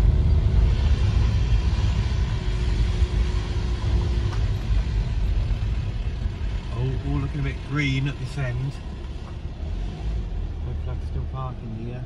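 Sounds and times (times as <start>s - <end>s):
van engine and road noise: 0.0s - 12.0s.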